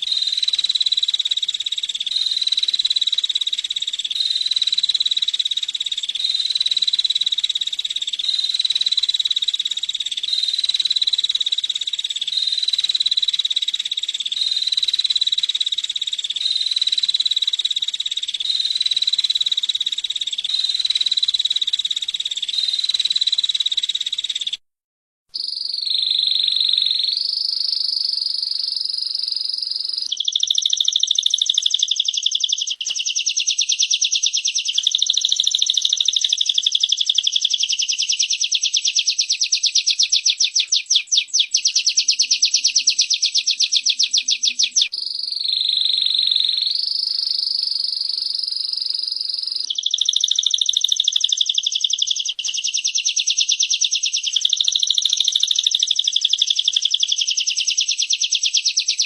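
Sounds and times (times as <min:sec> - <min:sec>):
birds singing high trills: 0:00.0 - 0:24.6, 0:25.4 - 0:59.0.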